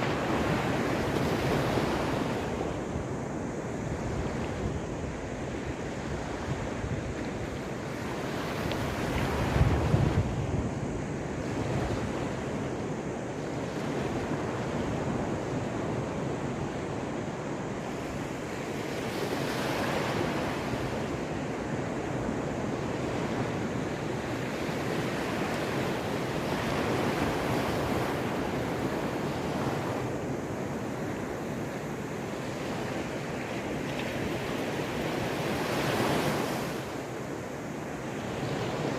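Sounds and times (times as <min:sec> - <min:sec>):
waves washing onto shore: 0:00.0 - 0:38.9.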